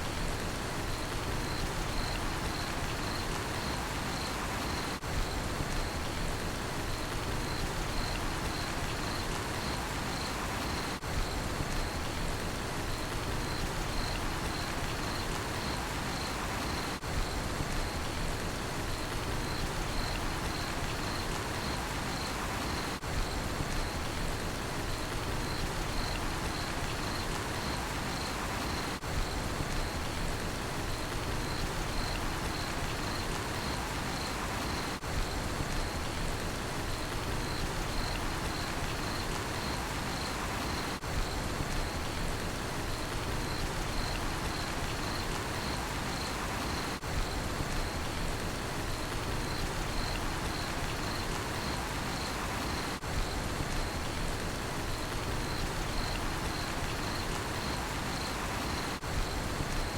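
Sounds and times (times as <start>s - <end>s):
steady rain falling: 0.0s - 59.9s
cricket chirping: 0.8s - 6.2s, 6.9s - 12.2s, 12.8s - 18.2s, 18.9s - 30.2s, 30.8s - 59.9s.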